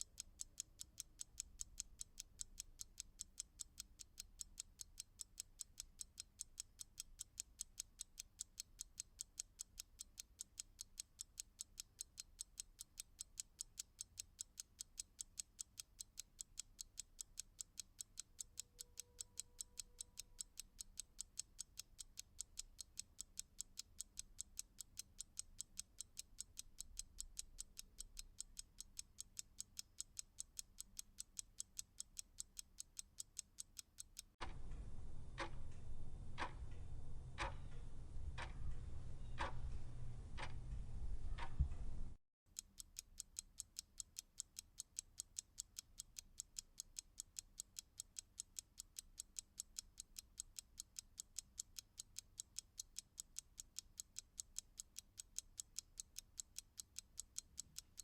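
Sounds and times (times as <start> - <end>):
clock ticking: 0.0 - 34.6, 35.4 - 41.6, 42.5 - 58.0.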